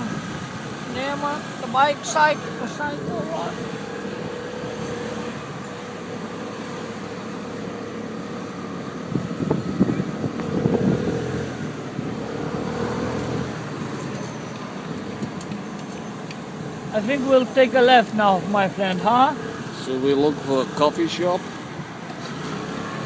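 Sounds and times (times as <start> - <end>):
motor vehicle noise: 0.0 - 23.0.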